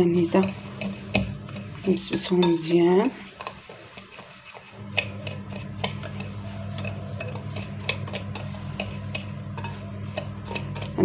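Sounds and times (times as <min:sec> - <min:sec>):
low steady hum: 0:00.0 - 0:11.0
spoon scraping a glass bowl: 0:00.0 - 0:11.0.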